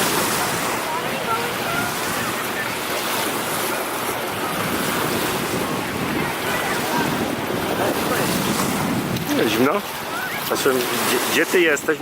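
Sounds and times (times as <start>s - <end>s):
water splashing and sloshing: 0.0s - 12.0s
wind buffeting microphone: 0.0s - 12.0s.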